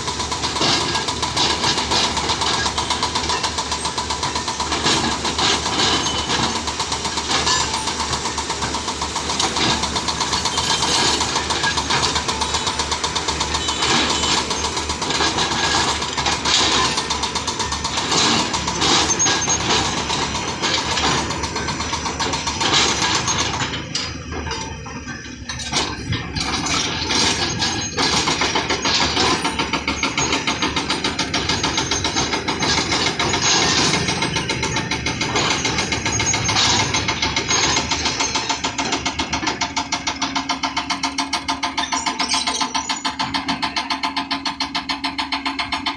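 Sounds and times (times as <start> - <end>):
excavator diesel engine clattering: 0.0 - 45.9.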